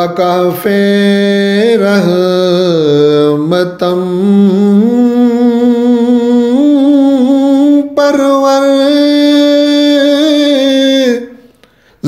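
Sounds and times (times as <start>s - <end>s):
man chanting: 0.0s - 11.5s.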